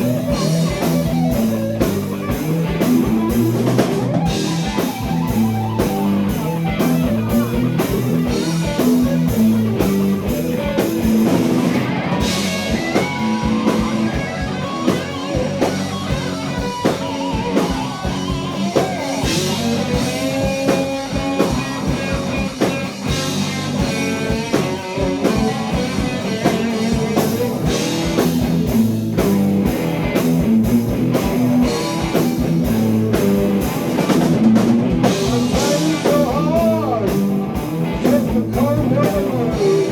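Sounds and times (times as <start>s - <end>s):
bass guitar: 0.0s - 39.9s
drum kit beat: 0.0s - 39.9s
electric guitar lead: 0.0s - 39.9s.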